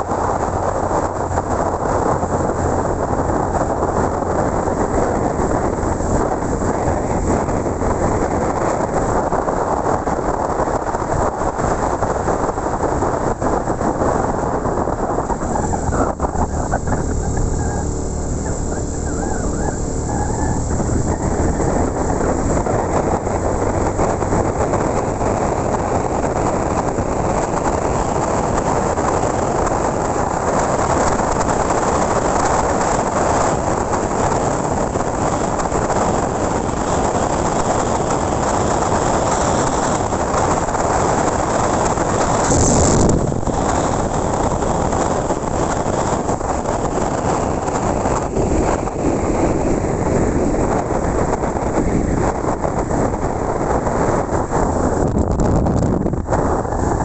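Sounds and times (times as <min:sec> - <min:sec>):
motorcycle engine hum: 0:00.0 - 0:57.0
wind rushing over microphone: 0:00.0 - 0:57.0.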